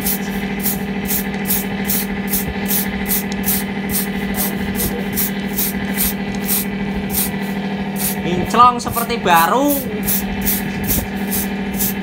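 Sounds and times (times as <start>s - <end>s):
engine running with clatter: 0.0s - 12.0s.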